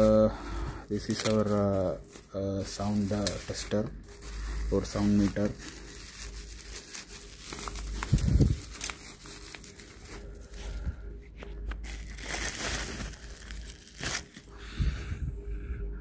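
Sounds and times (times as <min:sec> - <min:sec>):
bubble wrap crinkling: 0:00.0 - 0:14.7.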